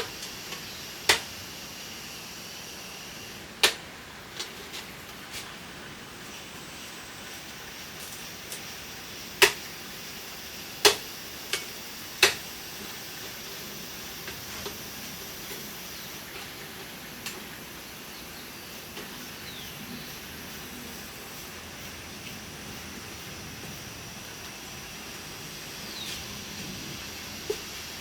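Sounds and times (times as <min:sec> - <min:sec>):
steady low hiss: 0:00.0 - 0:28.0.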